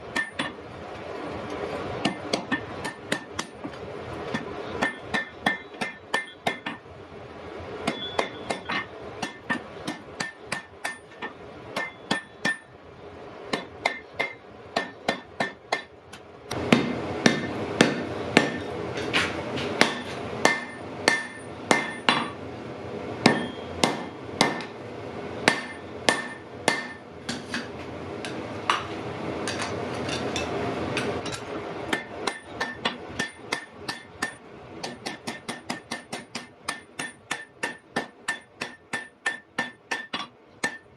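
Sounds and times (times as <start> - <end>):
hammer forging iron on anvil: 0.0 - 6.8, 7.8 - 12.8, 13.5 - 22.4, 23.2 - 24.8, 25.4 - 40.9.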